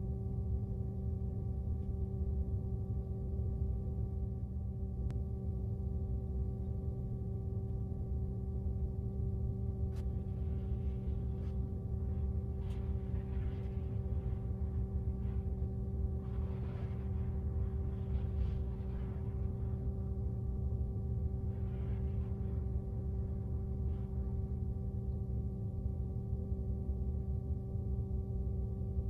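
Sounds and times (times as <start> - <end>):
steady hum over low drone: 0.0 - 29.0.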